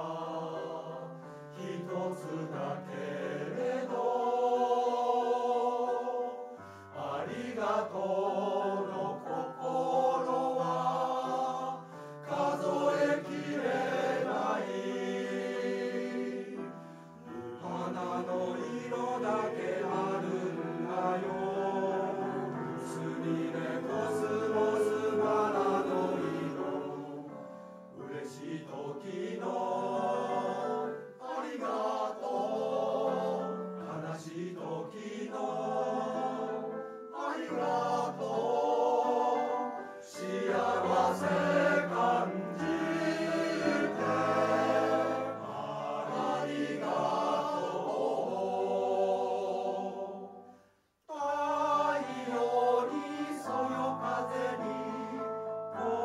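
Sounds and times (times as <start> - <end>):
men's choir singing in harmony: 0.0 - 56.0.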